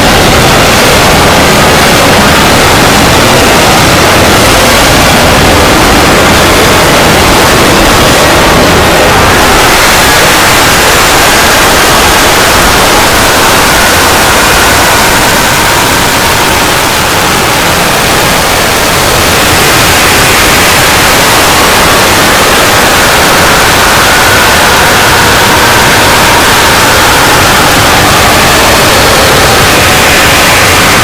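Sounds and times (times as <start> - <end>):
faint steady whine: 0.0 - 31.0
harsh clipped static noise: 0.0 - 31.0.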